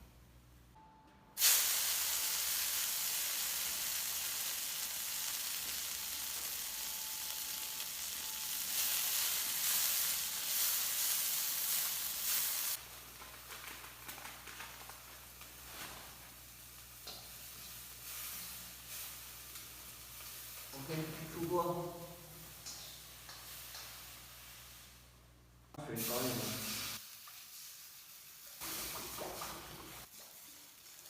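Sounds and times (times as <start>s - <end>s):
vegetables sizzling in hot oil: 1.4s - 20.8s, 22.3s - 25.0s, 26.0s - 31.0s.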